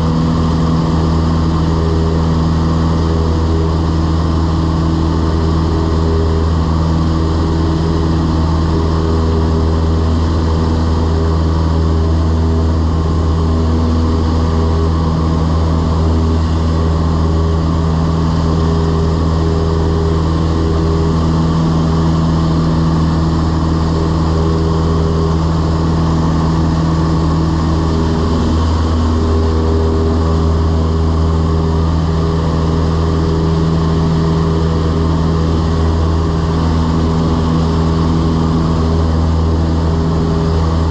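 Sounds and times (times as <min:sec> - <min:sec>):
propeller plane engine droning: 0:00.0 - 0:40.9.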